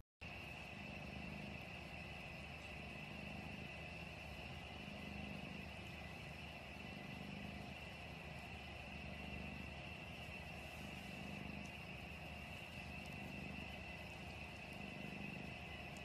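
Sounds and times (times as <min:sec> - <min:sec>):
cat purring: 0:00.2 - 0:16.0.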